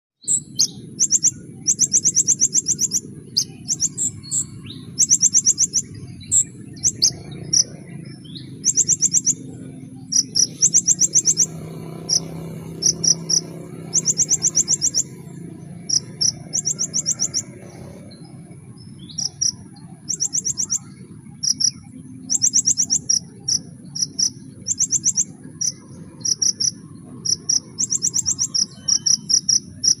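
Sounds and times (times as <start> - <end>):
bird trilling high notes: 0.2 - 30.0.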